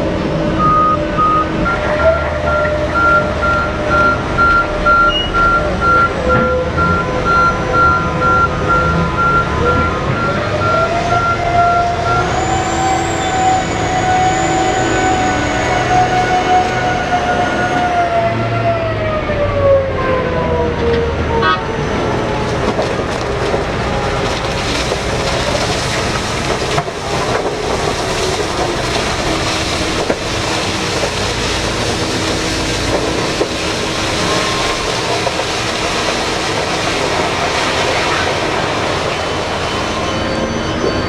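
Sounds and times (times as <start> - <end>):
vehicle noise: 0.0 - 41.0.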